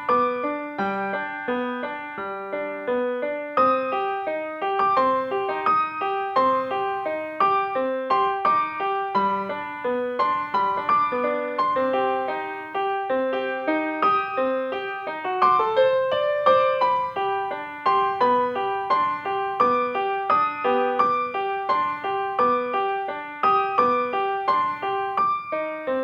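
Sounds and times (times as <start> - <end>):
gentle keyboard melody: 0.0 - 26.0.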